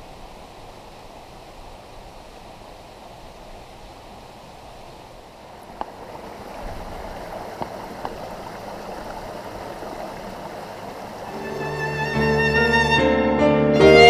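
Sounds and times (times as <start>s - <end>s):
stream water running over rocks: 0.0s - 12.8s.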